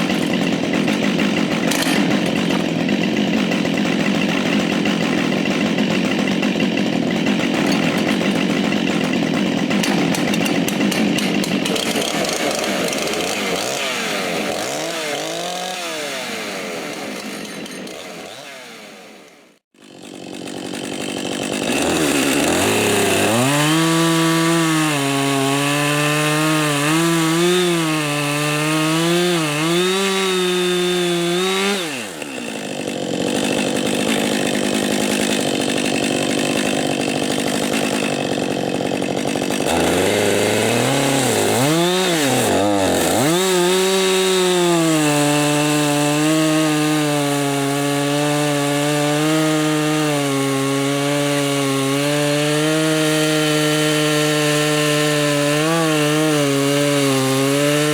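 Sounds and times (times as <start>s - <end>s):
chainsaw running: 0.0s - 57.9s.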